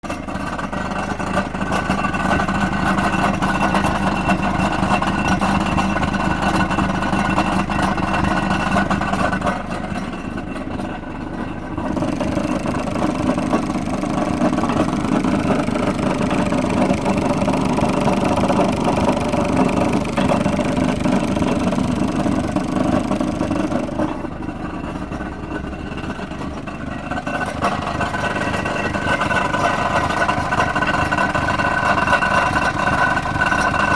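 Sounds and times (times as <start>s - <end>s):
car engine rattling: 0.0s - 33.9s.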